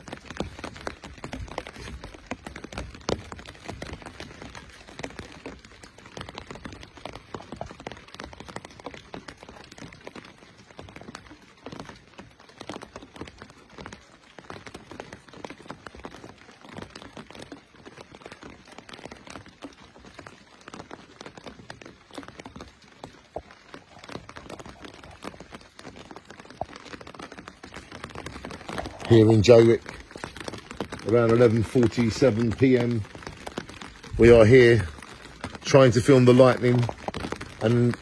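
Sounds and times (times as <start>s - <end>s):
rain tapping on an umbrella: 0.0s - 38.0s.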